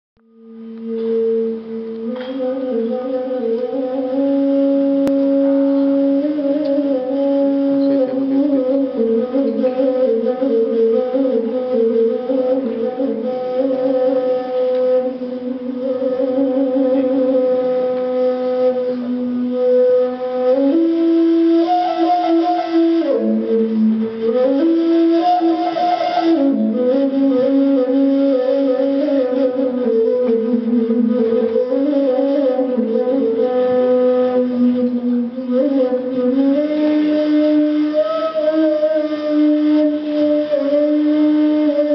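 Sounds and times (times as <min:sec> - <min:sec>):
flute playing slow melody: 0:00.2 - 0:41.9.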